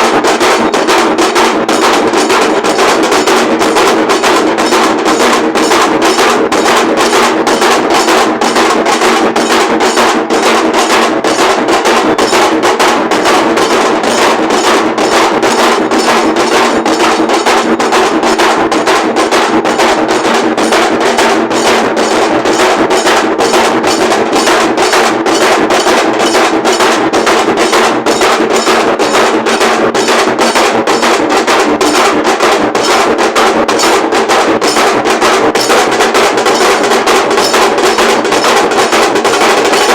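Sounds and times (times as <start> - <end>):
dhol drums beating: 0.0 - 39.9.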